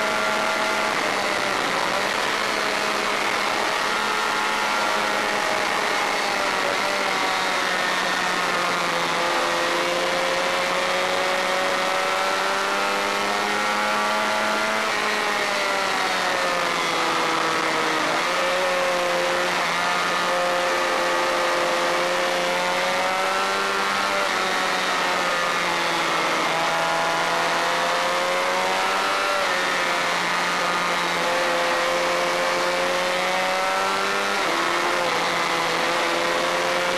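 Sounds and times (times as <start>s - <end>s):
racing motorcycle engine revving: 0.0s - 36.9s
steady rushing noise: 0.0s - 36.9s.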